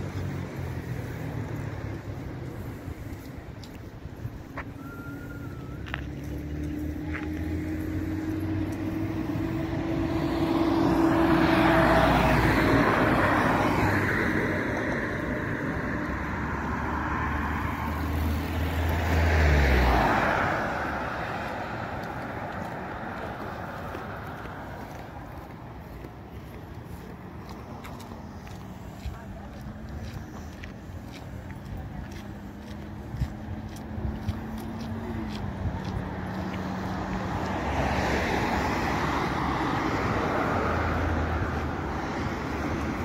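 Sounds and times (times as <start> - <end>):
cars passing close by: 0.0 - 43.0
low engine hum: 0.0 - 43.0.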